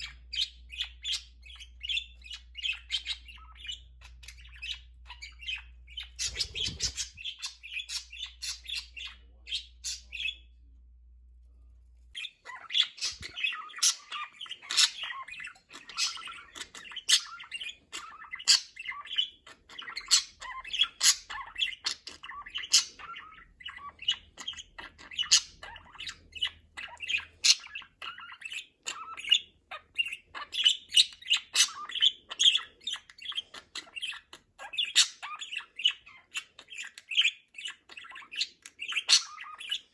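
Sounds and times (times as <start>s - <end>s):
budgerigars chirping and squawking: 0.0s - 10.6s, 12.1s - 39.9s.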